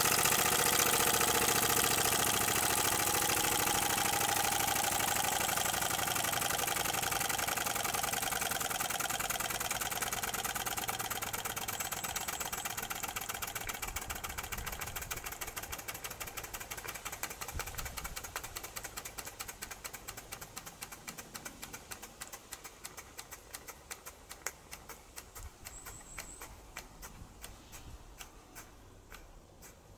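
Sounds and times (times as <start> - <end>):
steam engine exhaust beats: 0.0 - 29.9.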